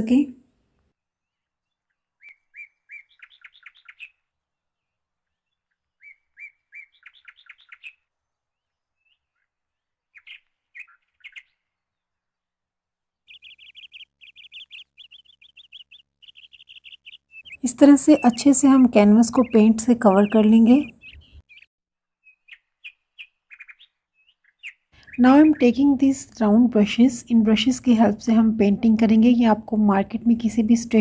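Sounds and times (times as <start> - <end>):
songbird chirping: 0.0 - 31.0.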